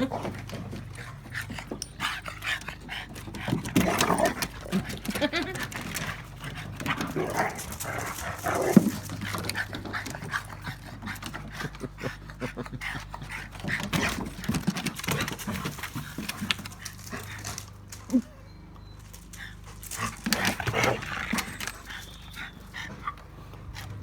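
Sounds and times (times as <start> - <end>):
scuffling clicks: 0.0 - 11.9, 13.2 - 24.0
dogs yipping and whimpering: 0.0 - 24.0.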